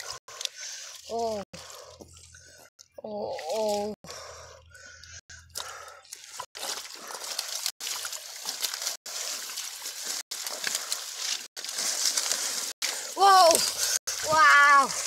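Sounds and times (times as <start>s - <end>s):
muddy water sloshing and splashing: 0.0s - 15.0s.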